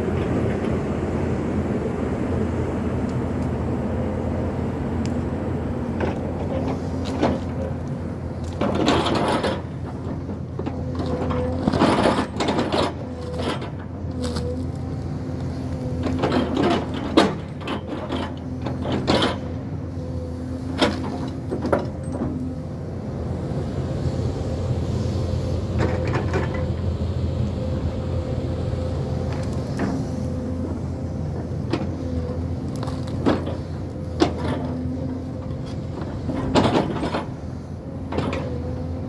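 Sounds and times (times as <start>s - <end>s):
excavator engine humming: 0.0s - 39.0s.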